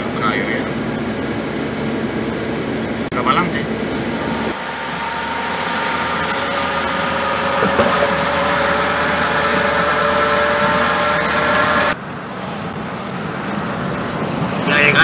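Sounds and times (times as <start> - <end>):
humming tone: 0.8 - 14.4.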